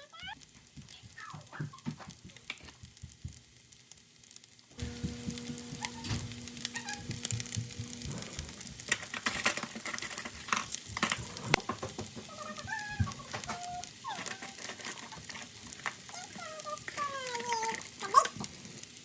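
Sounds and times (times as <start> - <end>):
rice sizzling and popping: 0.0 - 19.0.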